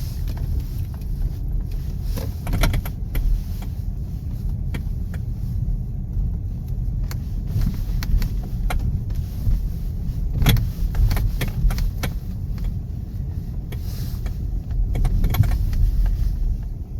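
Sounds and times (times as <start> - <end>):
car road rumble from inside: 0.0 - 16.9.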